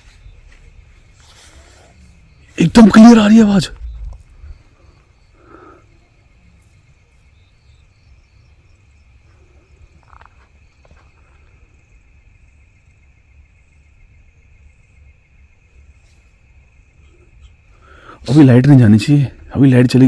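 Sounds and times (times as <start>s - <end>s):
distant animal calls: 0.0s - 19.6s
crickets chirring: 0.0s - 20.0s.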